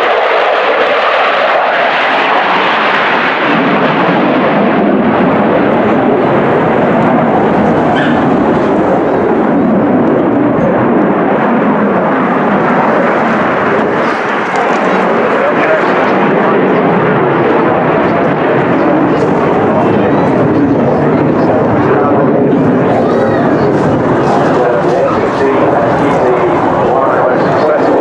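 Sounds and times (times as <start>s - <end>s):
fighter jet engine roar: 0.0s - 28.0s.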